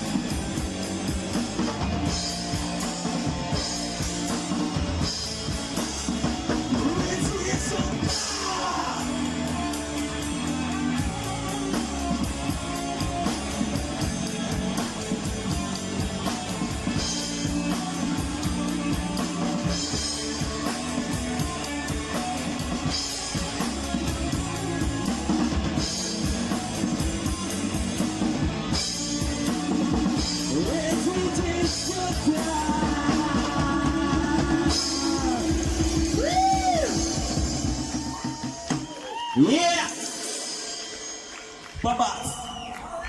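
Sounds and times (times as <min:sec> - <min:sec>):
drum kit beat: 0:00.0 - 0:42.3
bass guitar: 0:00.0 - 0:43.0
electric guitar: 0:00.0 - 0:43.0.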